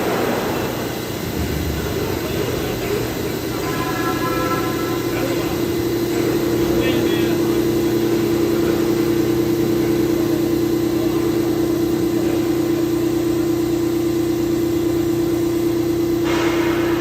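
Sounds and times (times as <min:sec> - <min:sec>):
machining center whine and hum: 0:00.0 - 0:17.0.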